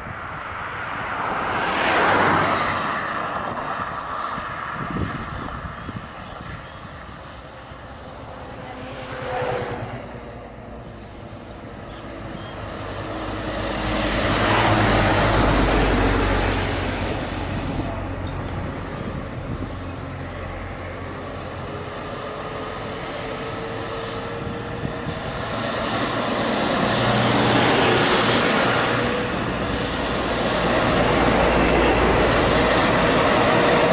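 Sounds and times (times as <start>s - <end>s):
diesel truck engines labouring: 3.8s - 33.9s.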